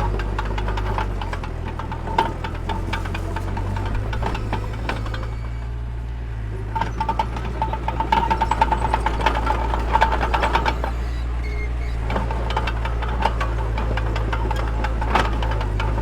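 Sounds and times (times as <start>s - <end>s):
metallic rattling with squeal: 0.0s - 6.0s, 6.6s - 16.0s
diesel engine droning: 0.0s - 16.0s.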